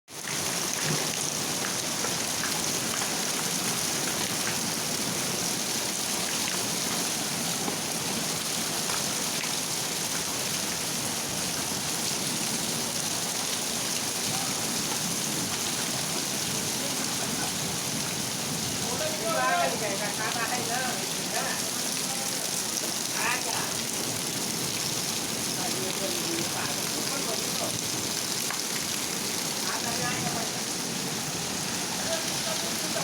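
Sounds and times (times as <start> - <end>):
steady rain falling: 0.1 - 33.0.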